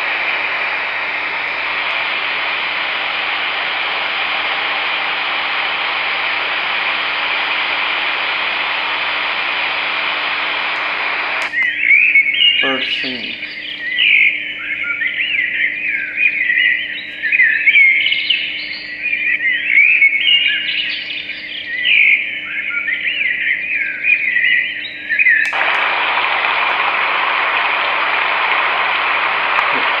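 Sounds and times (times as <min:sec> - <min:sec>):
recorded birdsong through small speaker: 0:00.9 - 0:26.2.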